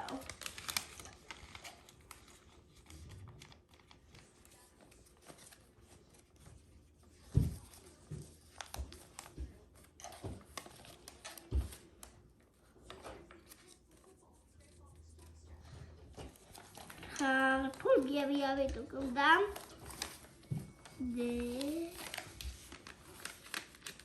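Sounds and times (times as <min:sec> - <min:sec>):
paper rustling and clicking: 0:00.0 - 0:15.3, 0:16.1 - 0:24.0.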